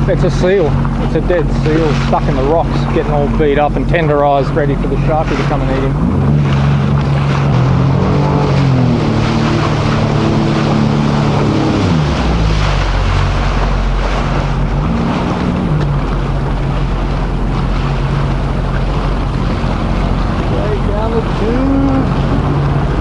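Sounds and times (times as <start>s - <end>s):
jet ski engine revving: 0.0s - 23.0s
wind on microphone: 0.0s - 23.0s.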